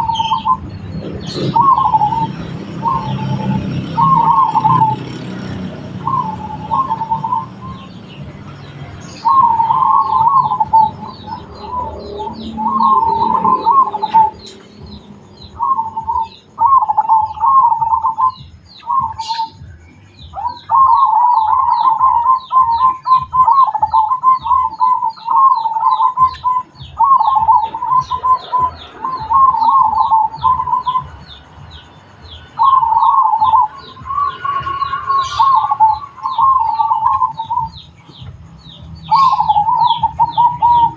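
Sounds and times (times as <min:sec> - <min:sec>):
dove cooing song: 0:00.0 - 0:40.9
high bird chirps: 0:00.0 - 0:40.9.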